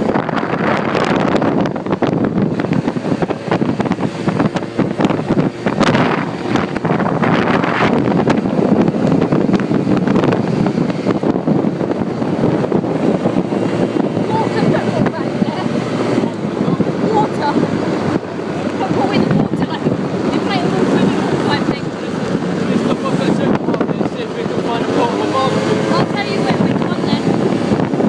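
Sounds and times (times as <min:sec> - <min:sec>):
quad bike engine running: 0:00.0 - 0:28.0
wind buffeting microphone: 0:00.0 - 0:28.0.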